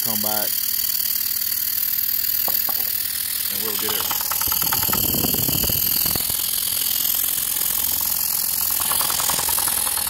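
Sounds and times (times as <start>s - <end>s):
model steam engine exhaust beat: 0.0s - 10.0s.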